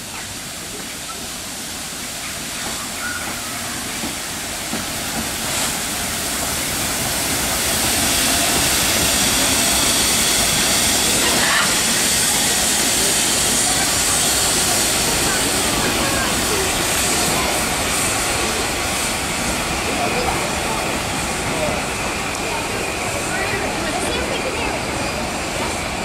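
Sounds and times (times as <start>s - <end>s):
hiss of escaping steam: 0.0s - 26.0s
steam locomotive moving slowly: 0.0s - 26.0s.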